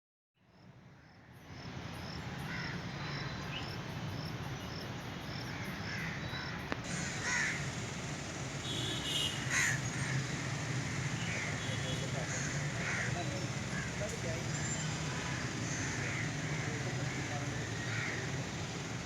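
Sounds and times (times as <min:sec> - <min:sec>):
insects chirping: 0:01.1 - 0:19.0.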